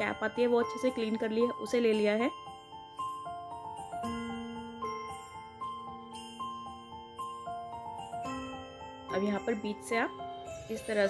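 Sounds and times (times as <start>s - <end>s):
simple background melody: 0.0s - 11.0s.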